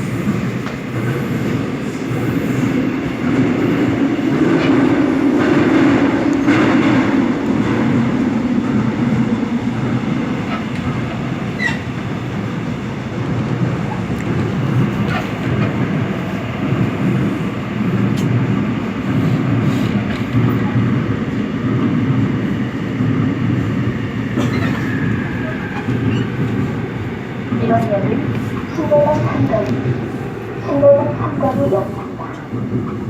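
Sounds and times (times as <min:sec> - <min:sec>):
subway train rumbling: 0:00.0 - 0:33.0.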